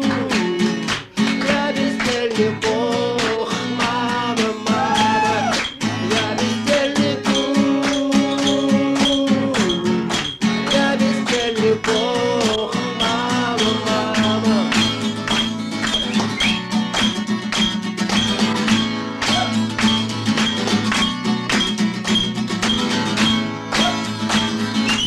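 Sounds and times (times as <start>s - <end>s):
plucked guitar over beat: 0.0s - 25.0s.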